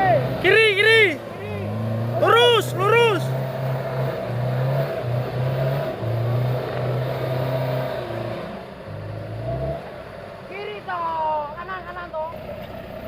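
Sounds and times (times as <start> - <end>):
engine running under load: 0.0 - 13.0.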